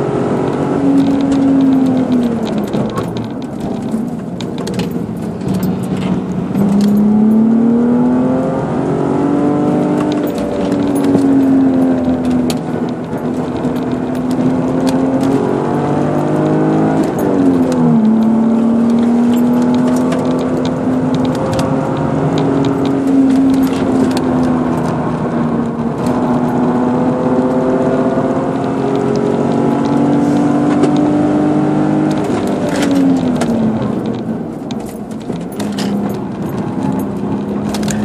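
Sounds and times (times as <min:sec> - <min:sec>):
car engine from inside cabin: 0:00.0 - 0:38.0.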